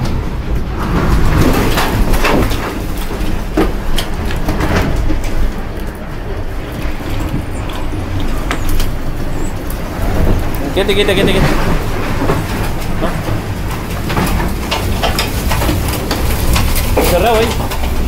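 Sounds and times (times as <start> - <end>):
debris knocking and rattling: 0.0 - 18.0
tornado wind rumbling: 0.0 - 18.0.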